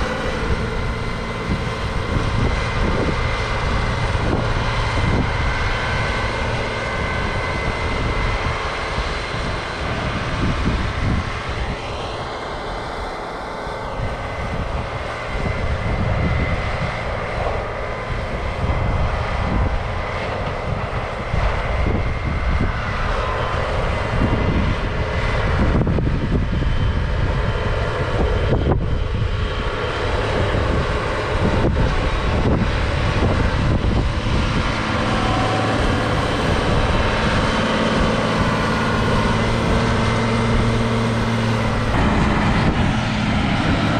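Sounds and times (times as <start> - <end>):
diesel farm machinery running: 0.0 - 43.9
rising and falling whine: 0.0 - 43.9.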